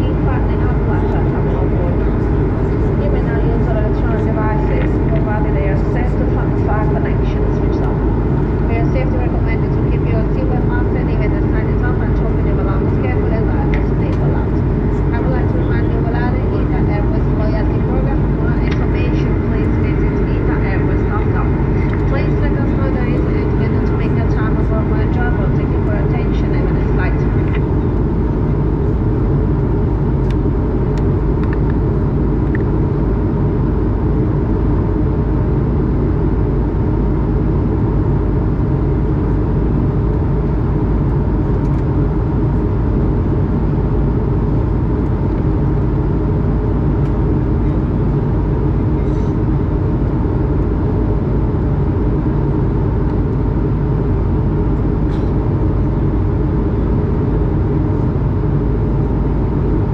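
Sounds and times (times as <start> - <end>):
engine and airflow rumble: 0.0 - 59.9
faint constant hum: 0.0 - 59.9.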